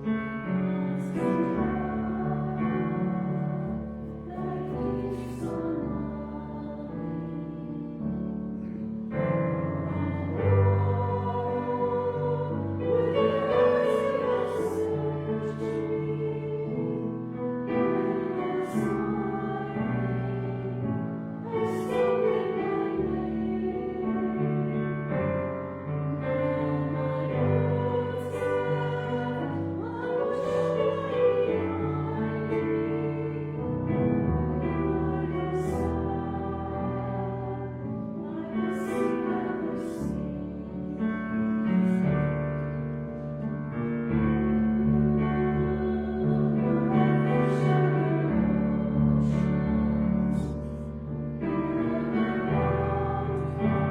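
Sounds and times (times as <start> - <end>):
voices singing slow song: 0.0 - 43.3, 44.2 - 53.9
piano accompaniment: 0.0 - 53.9.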